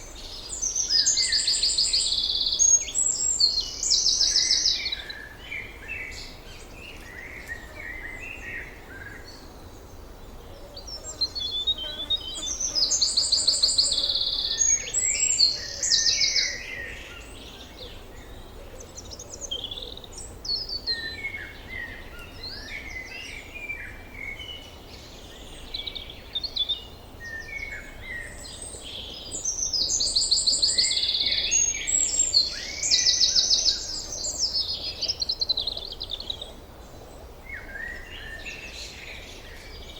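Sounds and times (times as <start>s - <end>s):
loud bird song of fast notes: 0.0s - 39.9s.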